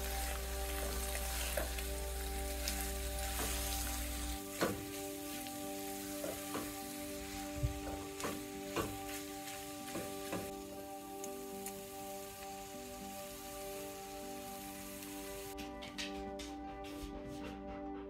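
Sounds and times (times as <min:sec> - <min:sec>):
onions sizzling in a pan: 0:00.0 - 0:15.6.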